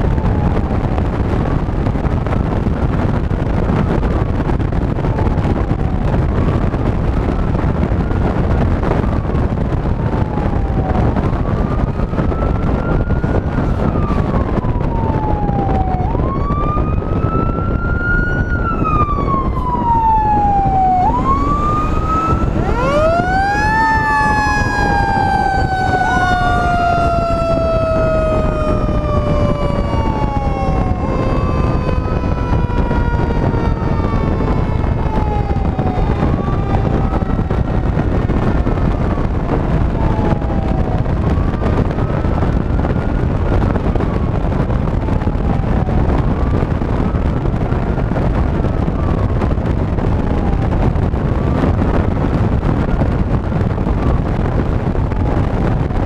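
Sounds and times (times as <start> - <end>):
fire engine sirens: 0.0 - 56.0
heavy wind: 0.0 - 56.0
road noise: 0.0 - 56.0.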